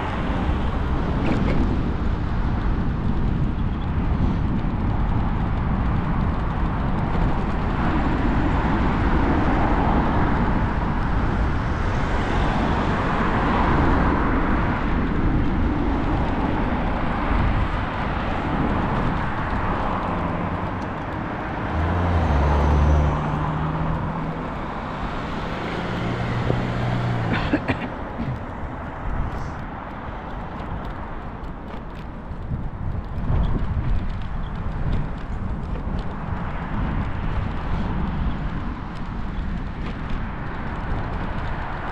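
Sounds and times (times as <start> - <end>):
motor vehicle engine hum: 0.0 - 41.9
road traffic passing: 0.0 - 41.9
wind rushing over microphone: 0.0 - 41.9.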